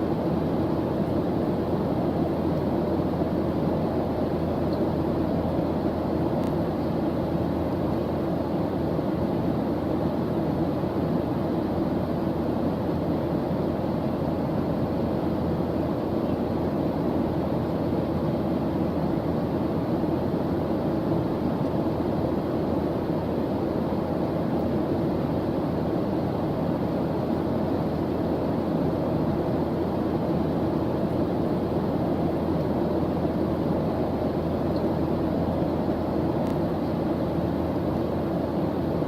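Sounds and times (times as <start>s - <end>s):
white noise hiss: 0.0s - 39.0s.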